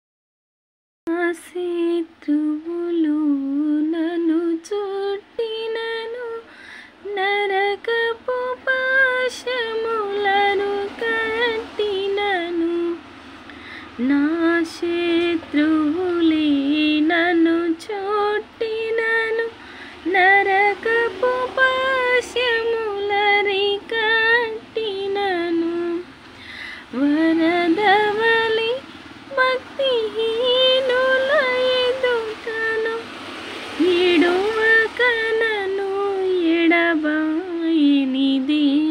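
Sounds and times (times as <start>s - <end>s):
woman singing unaccompanied: 1.1s - 13.1s, 13.8s - 38.9s.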